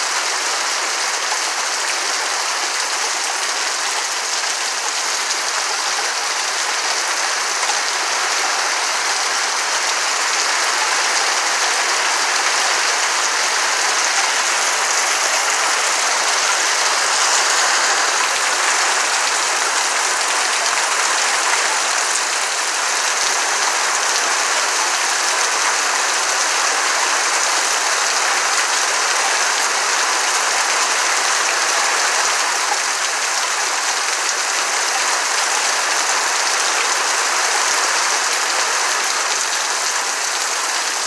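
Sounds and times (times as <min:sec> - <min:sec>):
heavy rain on trees and grass: 0:00.0 - 0:41.0.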